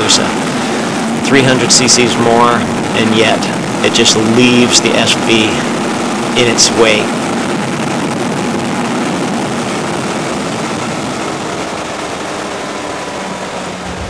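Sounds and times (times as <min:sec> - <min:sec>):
heavy wind rush: 0:00.0 - 0:14.0.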